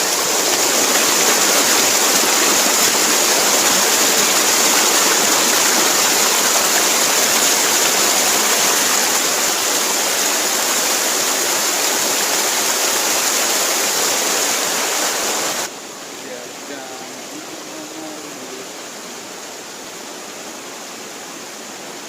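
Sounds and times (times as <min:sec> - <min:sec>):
fast-running water rushing: 0:00.0 - 0:22.0.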